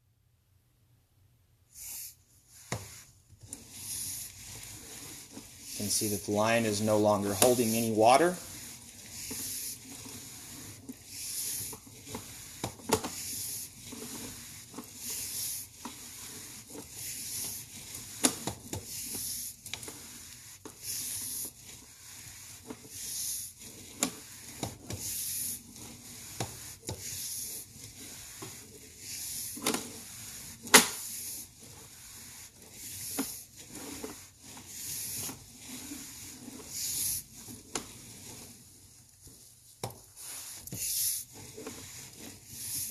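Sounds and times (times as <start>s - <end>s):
cable rubbing and scraping: 1.8s - 42.9s.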